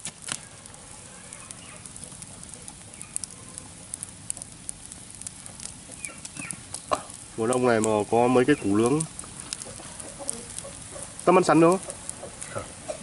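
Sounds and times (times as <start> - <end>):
sharp pops: 0.0 - 8.0, 8.6 - 13.0
low hiss: 0.0 - 13.0
wood fire crackling: 0.0 - 13.0.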